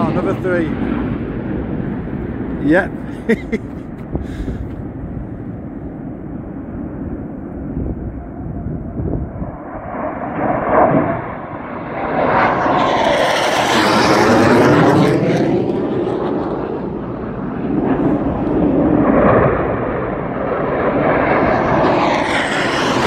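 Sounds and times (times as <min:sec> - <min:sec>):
fighter jet passing overhead: 0:00.0 - 0:23.0.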